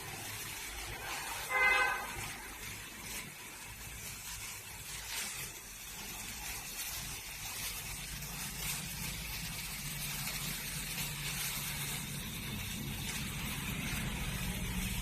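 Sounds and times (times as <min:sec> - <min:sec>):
sparkler candle hissing: 0:00.0 - 0:15.0.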